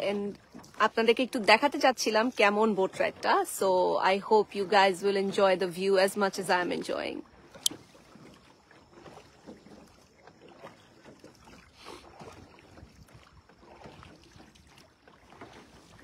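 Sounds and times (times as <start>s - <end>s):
water splashing and lapping at hull: 0.0s - 16.0s.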